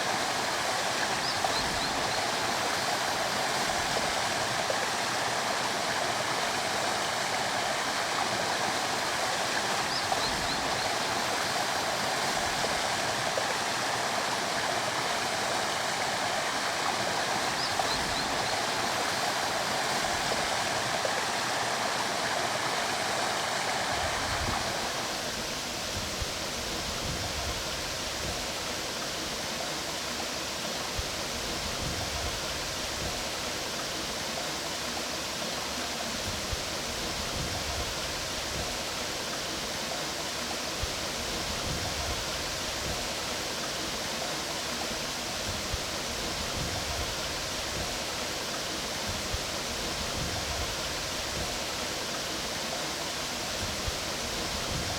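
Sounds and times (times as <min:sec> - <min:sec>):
stream rushing over rocks: 0:00.0 - 0:54.9.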